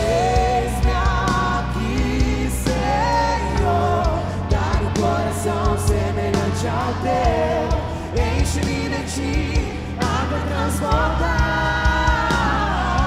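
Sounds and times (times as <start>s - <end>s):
bass line: 0.0s - 13.0s
person singing: 0.0s - 13.0s.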